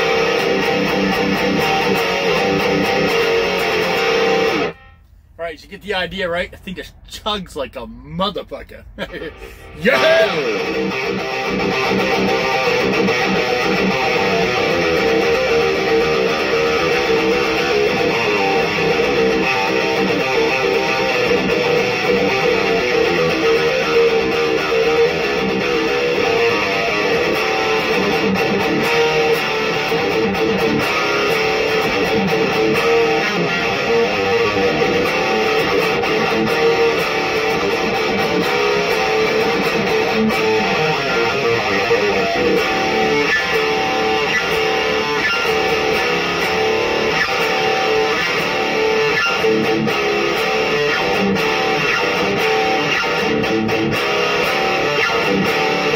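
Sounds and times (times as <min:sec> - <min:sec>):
distorted electric guitar riffs: 0:00.0 - 0:55.9.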